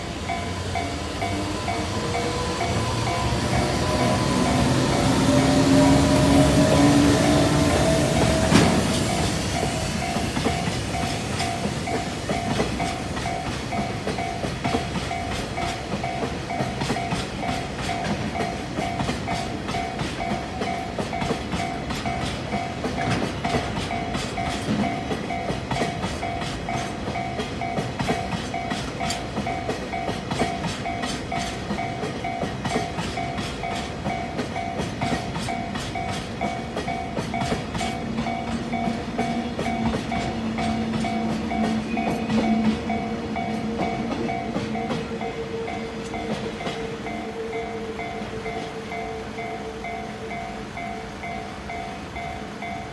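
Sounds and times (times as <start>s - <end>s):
crossing warning bell: 0.0s - 52.9s
train wheels clattering: 0.0s - 52.9s.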